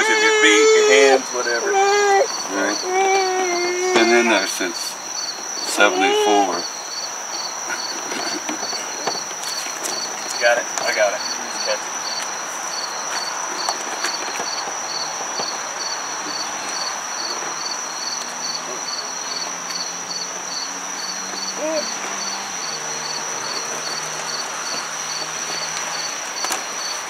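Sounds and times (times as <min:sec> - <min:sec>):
insect buzzing: 0:00.0 - 0:27.0
insect chirping: 0:00.0 - 0:27.0.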